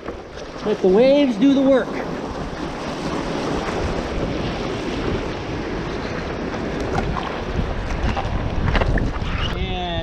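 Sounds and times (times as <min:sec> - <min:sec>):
rushing water: 0:00.0 - 0:10.0
wind buffeting microphone: 0:00.0 - 0:10.0.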